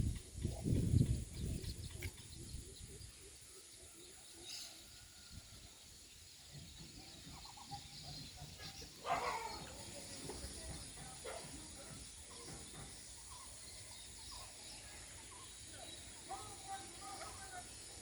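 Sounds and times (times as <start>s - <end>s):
flock of birds chirping: 0.0s - 18.0s.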